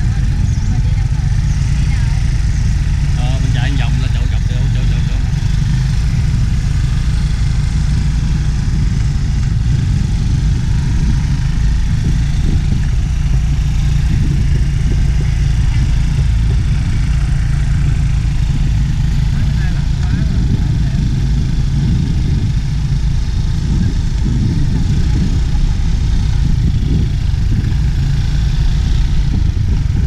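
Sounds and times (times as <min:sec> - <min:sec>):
motor scooter engine running: 0:00.0 - 0:30.0.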